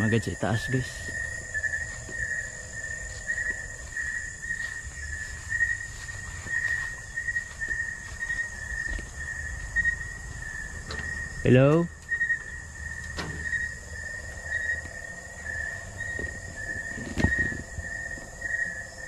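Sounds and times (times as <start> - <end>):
insects buzzing: 0.0 - 19.0
pulsing low insect tone: 0.0 - 19.0
rumble of walking: 0.0 - 19.0.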